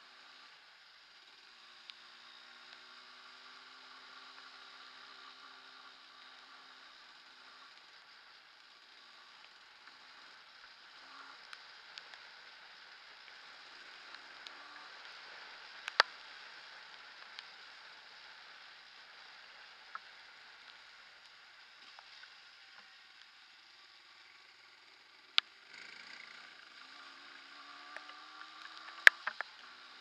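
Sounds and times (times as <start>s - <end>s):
trail bike riding noise: 0.0s - 30.0s.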